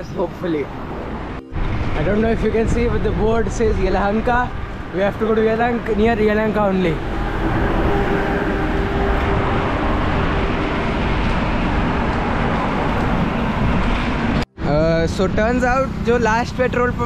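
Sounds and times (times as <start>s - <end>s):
wind rushing over microphone: 0.0s - 16.1s
road traffic noise: 0.0s - 17.0s.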